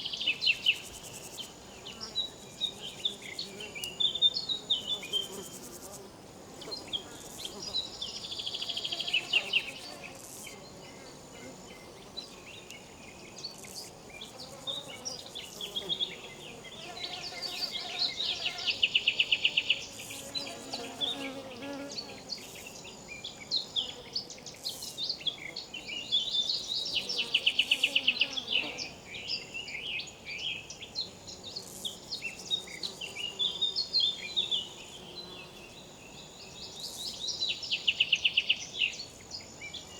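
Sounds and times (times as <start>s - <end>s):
insects buzzing and trilling: 0.0s - 39.9s.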